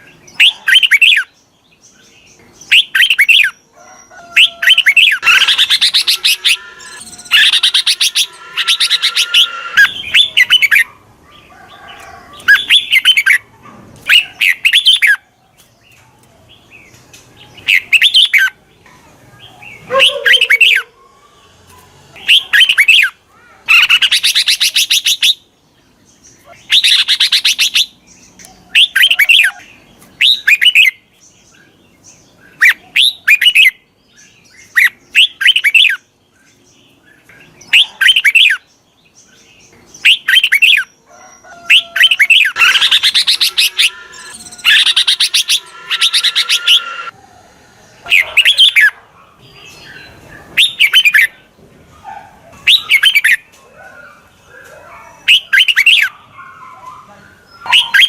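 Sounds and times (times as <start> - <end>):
bird chattering song: 0.0 - 3.6, 4.3 - 18.6, 21.7 - 25.5, 26.2 - 41.0, 41.6 - 47.1, 48.0 - 51.5, 52.5 - 58.0.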